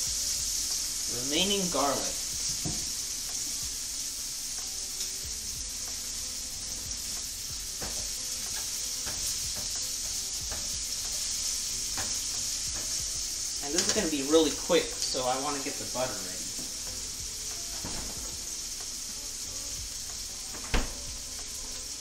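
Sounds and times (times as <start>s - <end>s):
garlic sizzling in pan: 0.0s - 22.0s.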